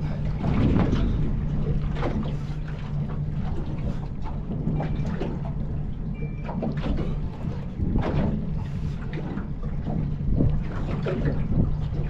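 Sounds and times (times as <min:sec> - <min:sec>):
wind buffeting microphone: 0:00.0 - 0:06.0, 0:07.2 - 0:12.0
water slapping against boat: 0:00.0 - 0:12.0.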